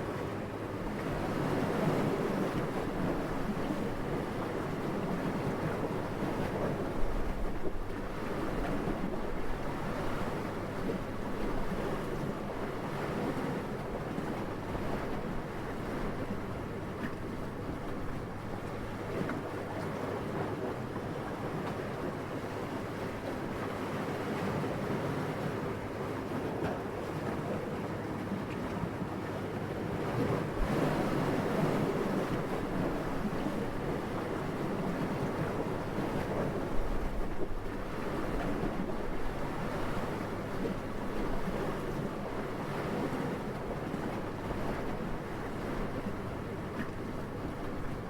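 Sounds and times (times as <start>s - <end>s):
wind: 0.0s - 48.0s.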